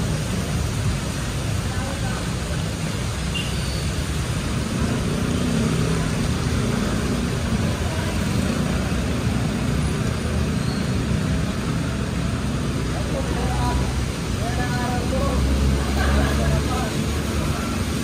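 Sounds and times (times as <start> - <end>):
motor traffic rumble: 0.0 - 18.0
rain hiss: 0.0 - 18.0.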